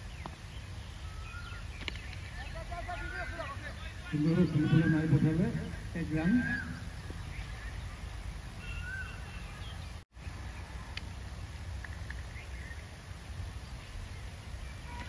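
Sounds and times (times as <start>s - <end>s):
faint bird chirps: 0.0s - 11.0s, 11.8s - 15.0s.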